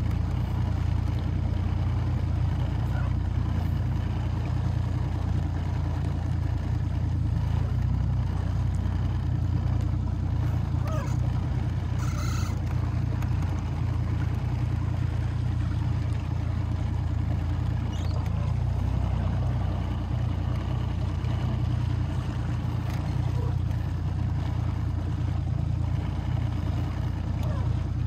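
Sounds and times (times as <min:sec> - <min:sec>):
boat motor droning: 0:00.0 - 0:28.0.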